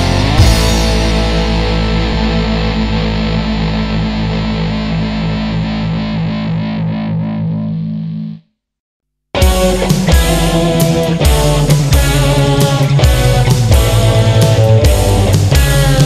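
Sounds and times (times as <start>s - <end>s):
distorted electric guitar chord: 0.0s - 8.4s, 9.4s - 16.0s.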